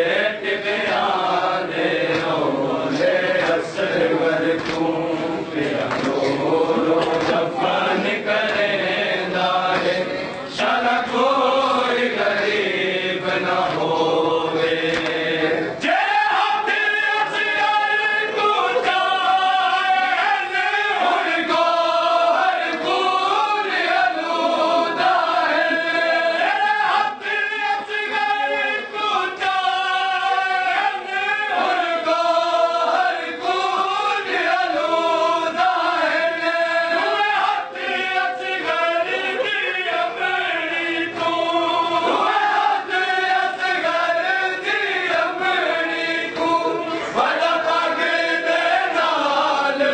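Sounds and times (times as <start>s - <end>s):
group chanting a mourning lament: 0.0s - 49.9s.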